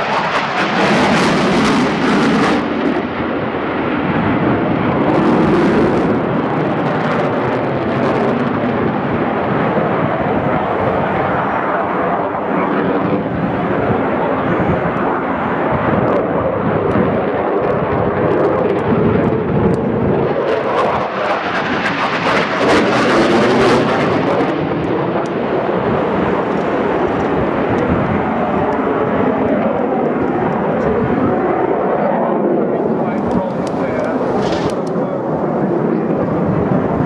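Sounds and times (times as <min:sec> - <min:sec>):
jet passing overhead: 0:00.0 - 0:37.0.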